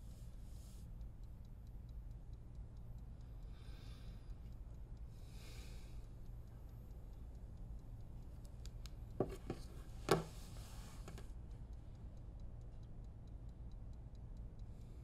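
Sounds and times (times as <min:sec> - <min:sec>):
clock ticking: 0:00.0 - 0:10.3, 0:11.2 - 0:15.0
low room hum: 0:00.0 - 0:15.0.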